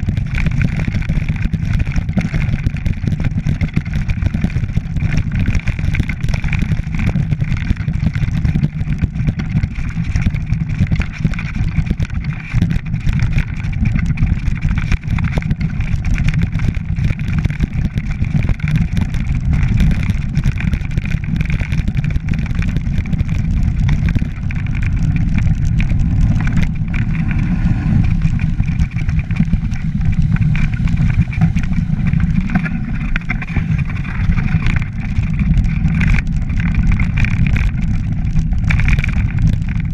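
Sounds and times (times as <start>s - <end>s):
wind and tyre rumble: 0.0s - 39.9s.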